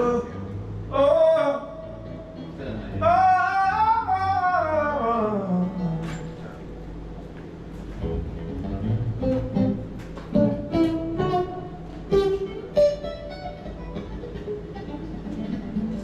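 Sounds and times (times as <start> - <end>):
guitar picked notes: 0.0 - 7.0, 8.0 - 16.0.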